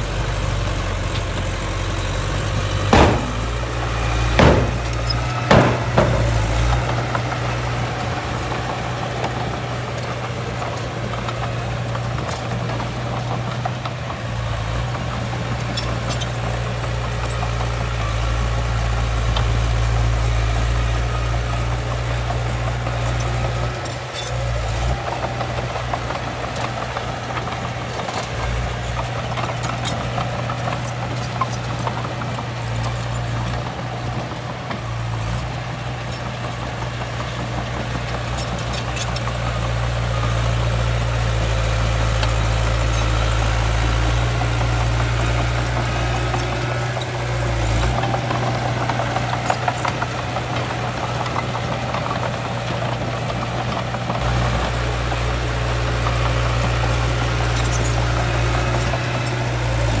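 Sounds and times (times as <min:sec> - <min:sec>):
diesel machinery engine drone: 0:00.0 - 1:00.0.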